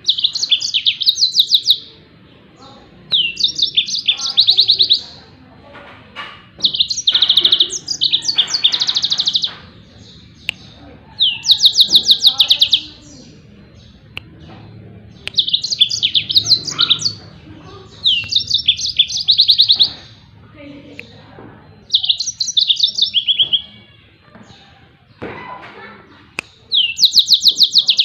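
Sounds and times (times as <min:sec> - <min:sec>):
canary singing trilled notes: 0:00.0 - 0:05.4, 0:06.2 - 0:25.6, 0:26.2 - 0:28.0.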